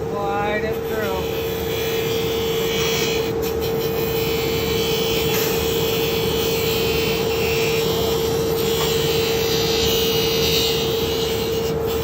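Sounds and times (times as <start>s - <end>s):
grinder whining: 0.0s - 12.0s
wheel grinding caps rasping: 0.9s - 12.0s.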